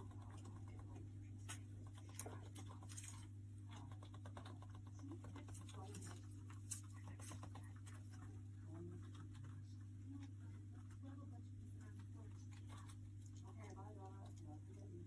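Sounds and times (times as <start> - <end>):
faint clicks and scratching: 0.0 - 15.0
steady low hum: 0.0 - 15.0.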